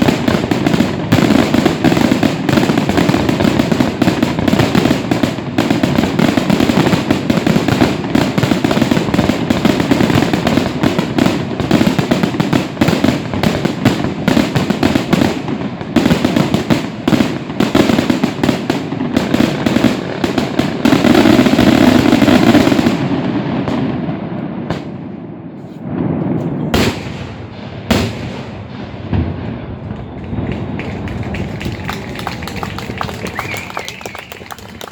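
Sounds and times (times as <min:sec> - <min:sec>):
fireworks bangs and crackling: 0:00.0 - 0:34.9.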